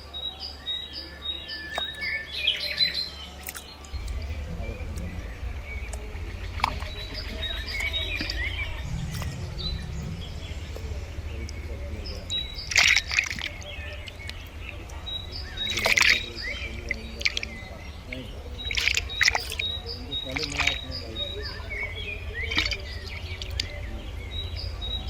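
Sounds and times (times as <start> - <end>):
birds chirping: 0.0 - 25.0
steady low rumble: 3.9 - 25.0.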